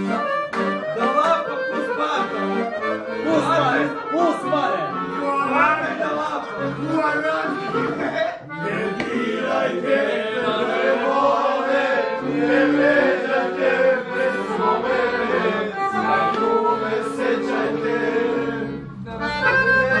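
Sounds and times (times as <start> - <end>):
instrumental music: 0.0 - 20.0
voices singing: 0.0 - 20.0.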